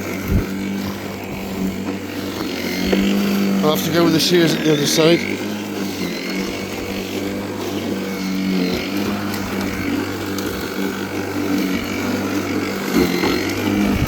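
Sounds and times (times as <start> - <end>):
electric lawnmower cutting grass: 0.0 - 14.0.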